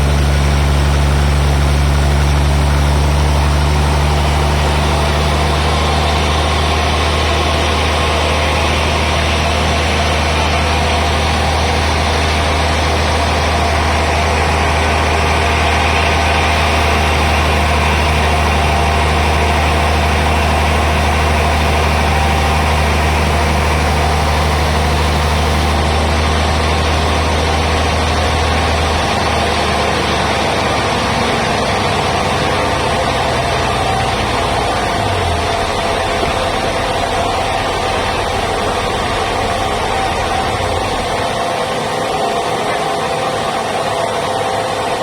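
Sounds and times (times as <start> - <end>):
noisy machinery rush: 0.0 - 45.0
sawmill machinery deep hum: 0.0 - 45.0.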